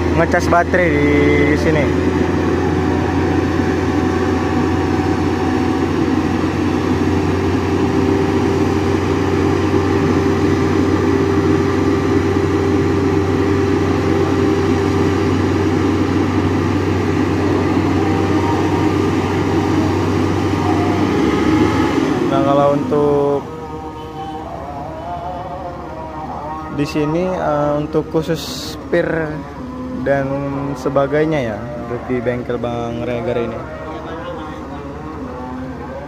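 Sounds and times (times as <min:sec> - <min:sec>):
bus engine idling: 0:00.0 - 0:36.0.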